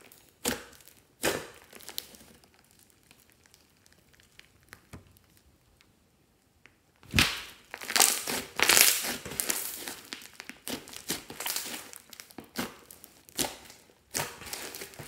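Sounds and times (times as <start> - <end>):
hands squishing slime: 0.0 - 5.8, 7.0 - 15.0.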